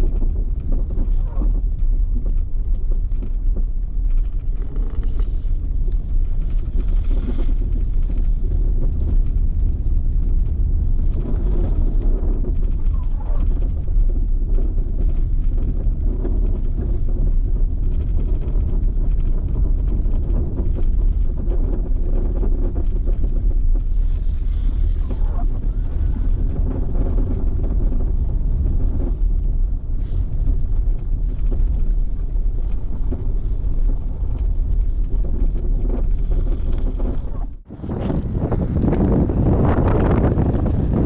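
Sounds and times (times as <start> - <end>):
vehicle driving rumble: 0.0 - 41.0.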